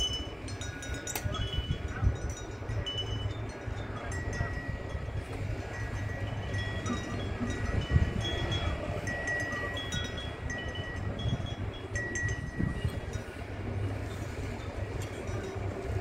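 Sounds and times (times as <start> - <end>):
metal wind chimes ringing: 0.0 - 16.0
wind rumble on microphone: 0.0 - 16.0.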